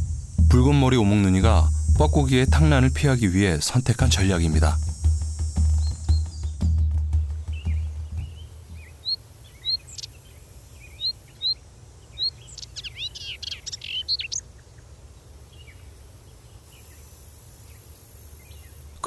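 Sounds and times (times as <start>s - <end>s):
birds chirping: 0.0s - 19.0s
rapid sweeping birdsong: 0.0s - 19.0s.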